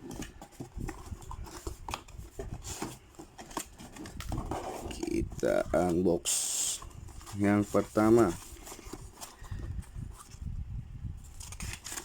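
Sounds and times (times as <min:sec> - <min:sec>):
cardboard box being opened: 0:00.0 - 0:06.1, 0:06.7 - 0:10.5, 0:11.3 - 0:12.0
packaging scrapes and rubs: 0:00.0 - 0:10.5, 0:11.2 - 0:12.0.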